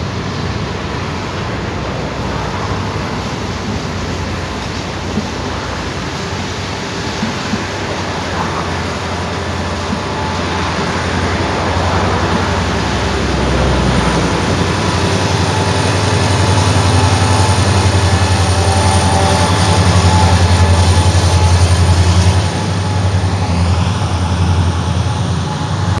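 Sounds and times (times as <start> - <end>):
diesel locomotive engine drone: 0.0 - 26.0
train wheels clattering on rails: 0.0 - 26.0.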